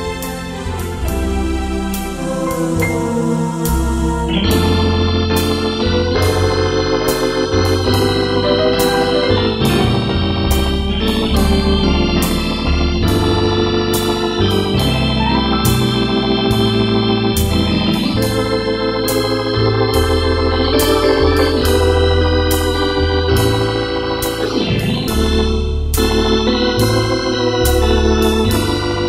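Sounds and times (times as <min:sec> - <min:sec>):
organ music with bass line: 0:00.0 - 0:29.0
sharp clicking beat: 0:02.0 - 0:29.0.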